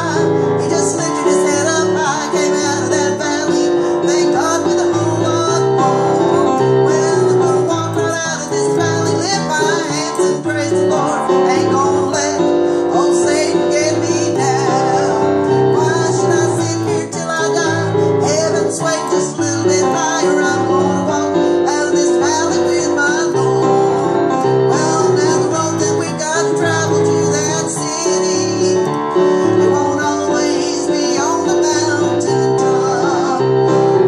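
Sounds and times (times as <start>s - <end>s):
digital piano chords: 0.0s - 34.0s
woman singing: 0.0s - 34.0s.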